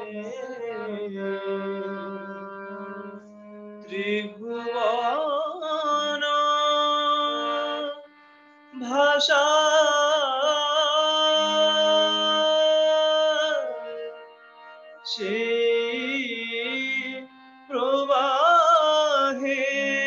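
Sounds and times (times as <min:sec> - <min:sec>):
man singing devotional song: 0:00.0 - 0:03.2, 0:03.8 - 0:14.1, 0:15.0 - 0:20.0
sustained accompaniment: 0:00.0 - 0:20.0.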